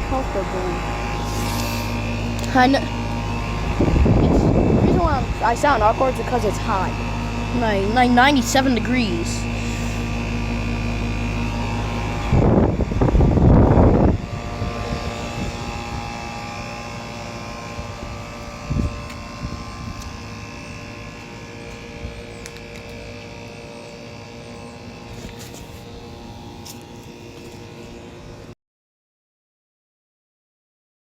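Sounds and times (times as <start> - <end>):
air conditioner unit humming: 0.0 - 28.5.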